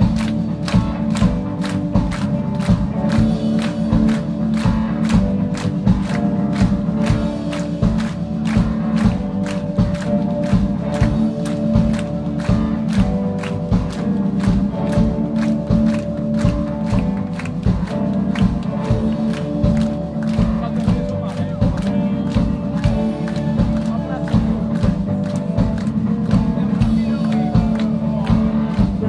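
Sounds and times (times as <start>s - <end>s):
drum kit steady beat: 0.0s - 29.0s
electric guitars: 0.0s - 29.0s.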